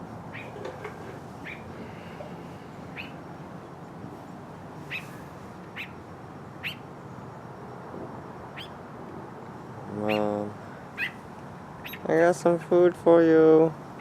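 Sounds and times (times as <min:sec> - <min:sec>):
bird chirping: 0:00.0 - 0:08.8, 0:09.4 - 0:12.8, 0:13.8 - 0:14.0
steady background noise: 0:00.0 - 0:14.0.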